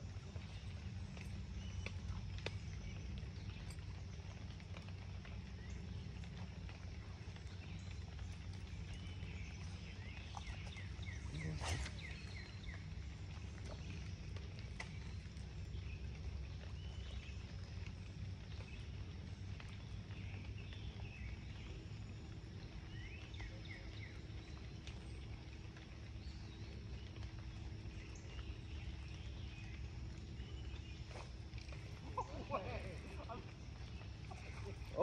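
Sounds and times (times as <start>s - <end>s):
birds chirping: 0.0s - 35.0s
faint steady hum: 0.0s - 35.0s
steady low rumble: 0.0s - 35.0s.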